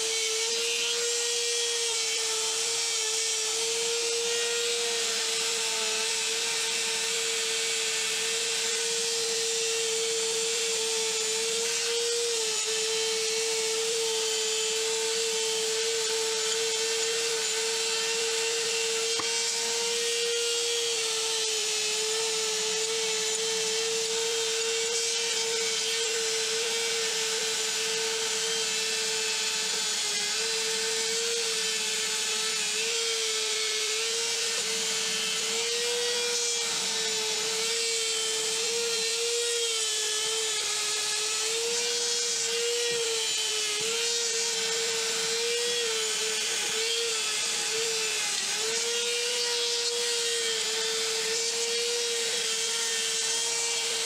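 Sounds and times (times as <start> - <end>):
rotary tool motor whining: 0.0 - 54.0.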